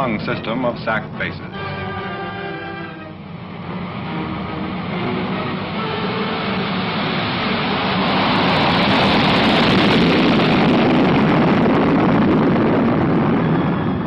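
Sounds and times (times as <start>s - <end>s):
loud jet engine noise: 0.0s - 14.0s.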